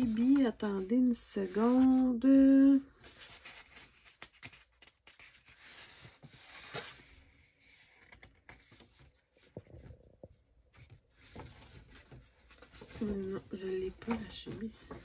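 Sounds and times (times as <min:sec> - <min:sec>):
paper rustling: 0:00.0 - 0:10.0, 0:10.7 - 0:15.0.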